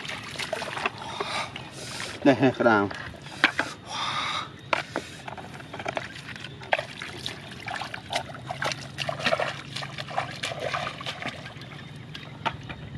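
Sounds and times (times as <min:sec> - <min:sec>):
water trickling and splashing: 0:00.0 - 0:12.9.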